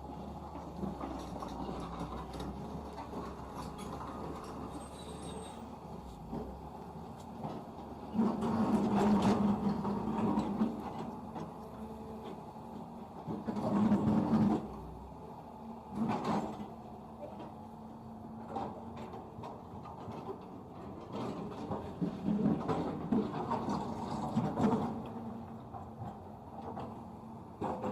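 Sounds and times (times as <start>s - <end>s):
excavator diesel engine: 0.0s - 27.9s.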